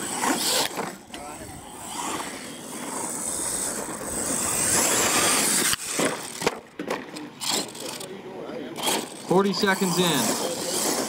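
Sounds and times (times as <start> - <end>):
toy truck motor whirring: 0.0 - 11.0.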